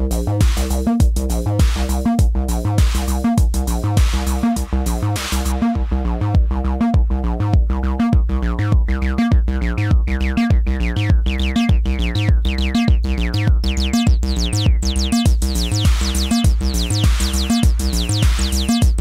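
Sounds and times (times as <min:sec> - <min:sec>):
acid synth bass line: 0:00.0 - 0:19.0
drum machine beat: 0:00.0 - 0:19.0.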